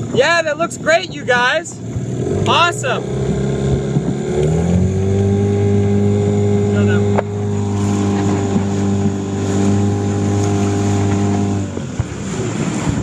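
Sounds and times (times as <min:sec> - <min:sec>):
outboard motor drone: 0:00.0 - 0:13.0
water noise: 0:00.0 - 0:13.0
wind: 0:00.0 - 0:13.0.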